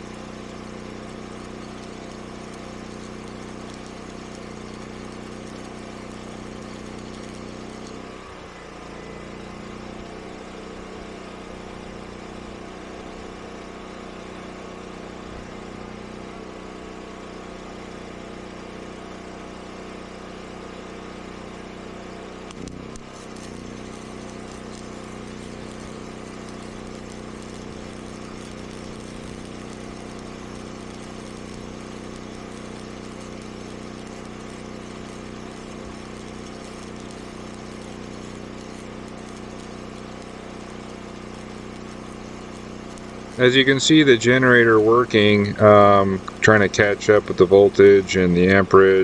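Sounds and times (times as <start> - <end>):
portable generator engine running: 0.0 - 49.0.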